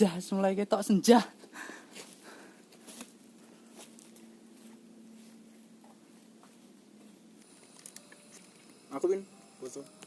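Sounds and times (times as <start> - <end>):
faint background hiss: 0.0 - 10.0
steady low hum: 0.0 - 10.0.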